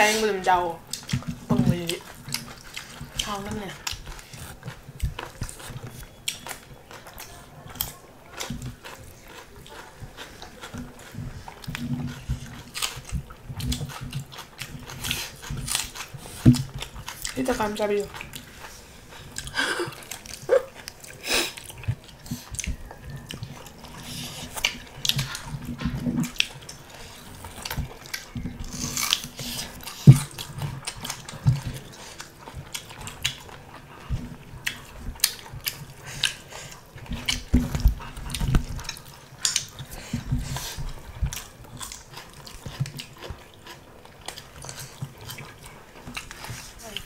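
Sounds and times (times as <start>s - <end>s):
people chewing and biting: 0.0s - 47.0s.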